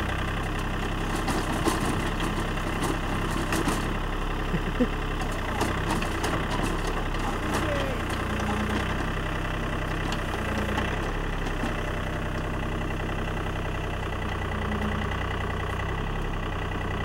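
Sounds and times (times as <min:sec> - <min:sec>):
backhoe hydraulic hum: 0:00.0 - 0:17.0
tractor diesel engine running: 0:00.0 - 0:17.0.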